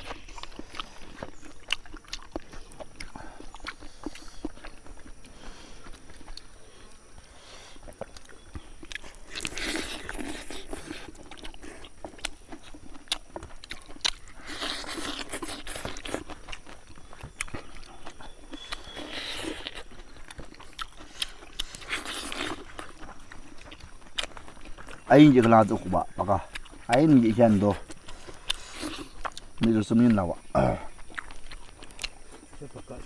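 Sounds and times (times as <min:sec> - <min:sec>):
people chewing and crunching: 0:00.0 - 0:33.0.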